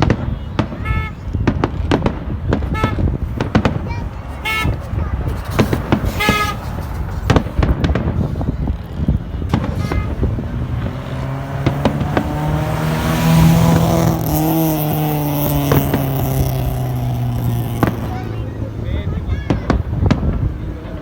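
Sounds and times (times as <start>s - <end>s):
fireworks cracking: 0.0s - 21.0s
vehicle engine passing: 1.3s - 21.0s.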